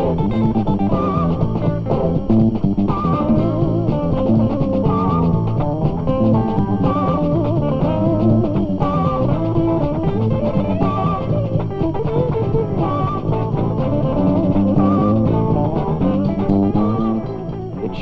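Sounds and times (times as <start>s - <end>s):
guitar rock music: 0.0s - 18.0s.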